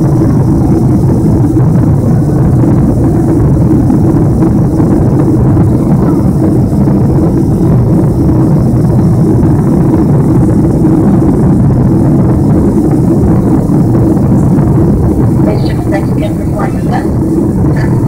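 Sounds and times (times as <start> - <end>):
jet engine cabin drone: 0.0 - 18.0.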